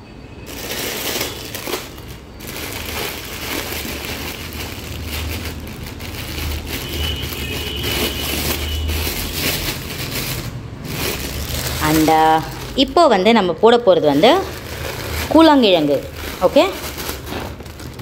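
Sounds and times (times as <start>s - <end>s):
dry herbs shifting in a bag: 0.5s - 13.2s, 14.0s - 18.0s
plastic bag crinkling: 0.5s - 18.0s.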